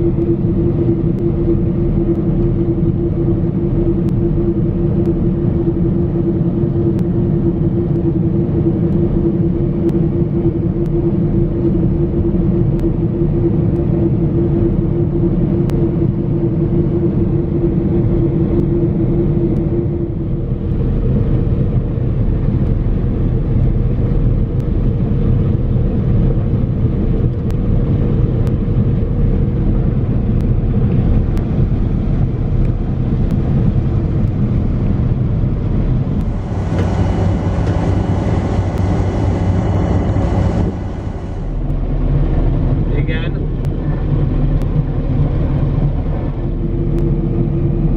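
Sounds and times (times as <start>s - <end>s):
combine harvester machinery drone: 0.0s - 47.9s
steady whine: 0.0s - 47.9s.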